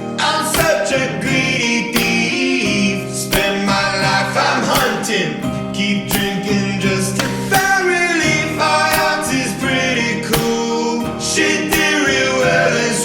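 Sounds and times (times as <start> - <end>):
song with male and choir vocals: 0.0 - 13.0.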